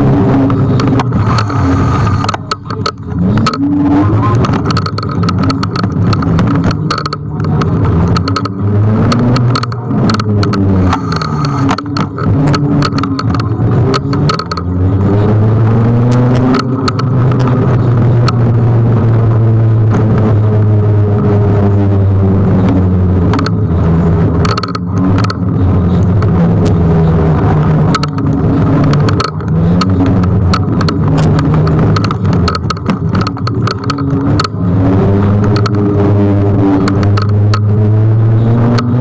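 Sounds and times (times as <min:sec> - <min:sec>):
car engines accelerating and passing: 0:00.0 - 0:39.0
sharp knocks and clicks: 0:00.3 - 0:18.6, 0:22.6 - 0:37.8.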